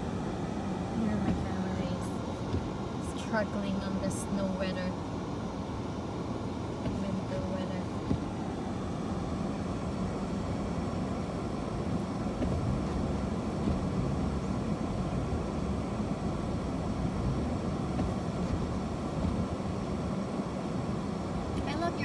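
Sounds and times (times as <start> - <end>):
car interior rumble: 0.0 - 22.0.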